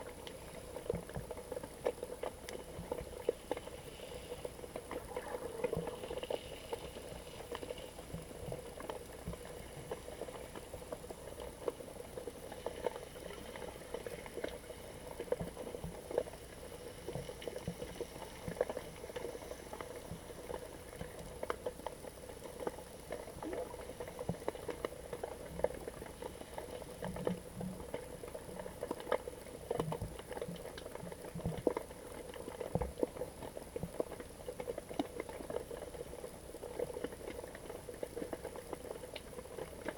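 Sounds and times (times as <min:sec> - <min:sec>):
muffled underwater hum: 0:00.0 - 0:39.9
water crackling clicks and pops: 0:00.0 - 0:39.9.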